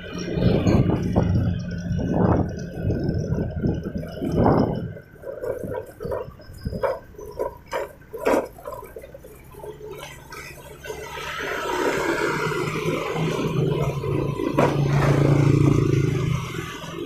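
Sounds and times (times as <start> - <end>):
knocks and clatters: 0.0 - 17.0
motorcycle engine idling: 0.0 - 17.0.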